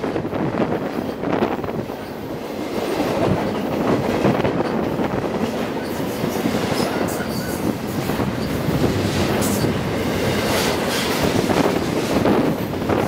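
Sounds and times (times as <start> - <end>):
freight train wheels rumbling on rails: 0.0 - 13.0
train knocks: 0.0 - 13.0.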